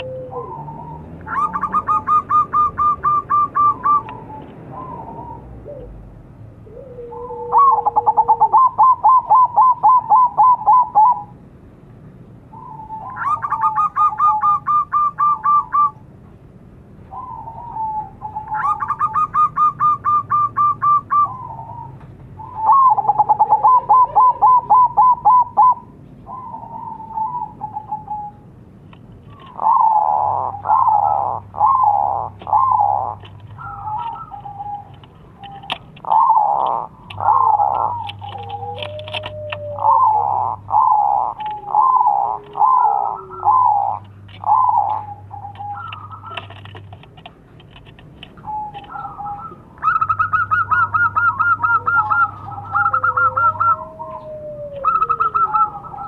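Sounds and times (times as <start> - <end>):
dove cooing: 0.0 - 11.4, 12.5 - 16.0, 17.0 - 28.5, 29.2 - 56.0.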